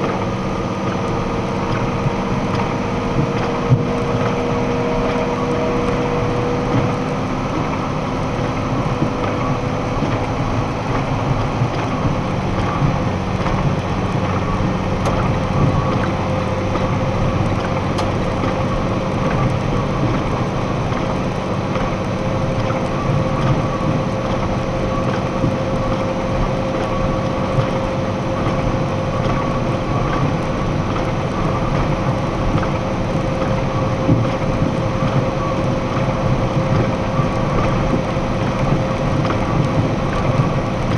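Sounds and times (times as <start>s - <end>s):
truck engine and tyre drone: 0.0s - 40.9s.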